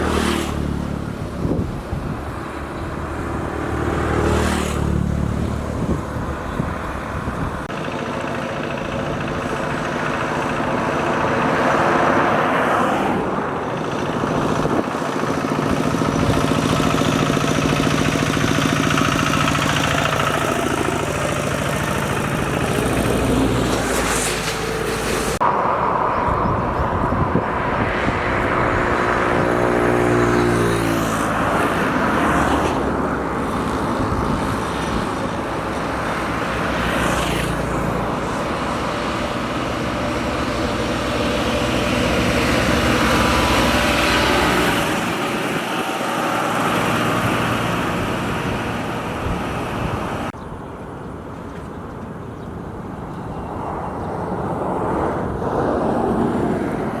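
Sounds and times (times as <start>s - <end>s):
vehicles passing on road: 0.0s - 57.0s.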